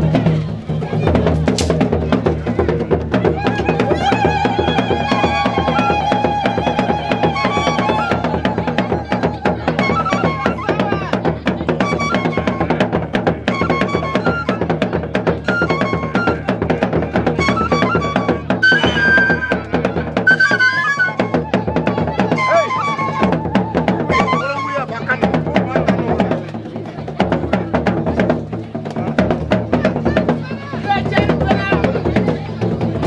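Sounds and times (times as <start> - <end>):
fast drum beat: 0.0 - 33.0.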